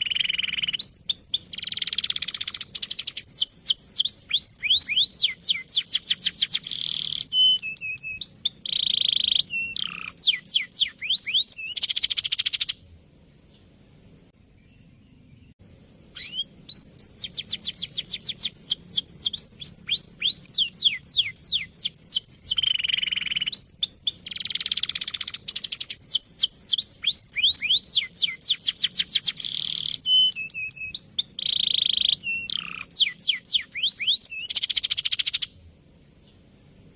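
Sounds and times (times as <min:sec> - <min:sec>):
canary singing trills: 0:00.0 - 0:13.7, 0:14.4 - 0:36.4.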